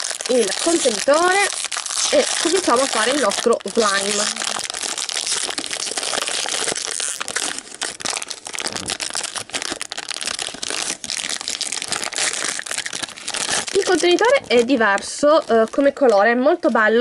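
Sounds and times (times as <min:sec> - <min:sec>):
foil wrapper crinkling and tearing: 0:00.0 - 0:17.0.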